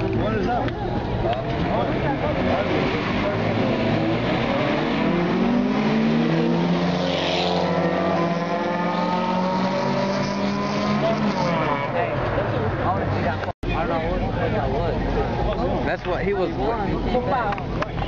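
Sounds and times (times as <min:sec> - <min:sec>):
race car engines running hard: 0:00.0 - 0:18.0.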